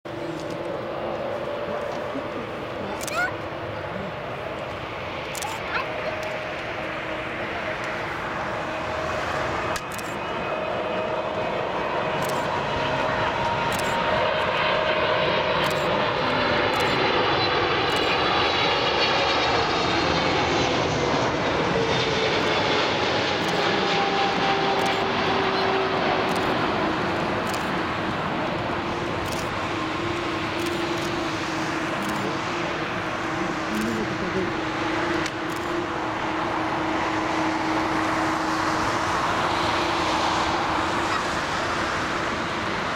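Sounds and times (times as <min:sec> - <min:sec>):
jet airliner passing overhead: 0:00.1 - 0:42.9
jet engine whine: 0:00.1 - 0:42.9.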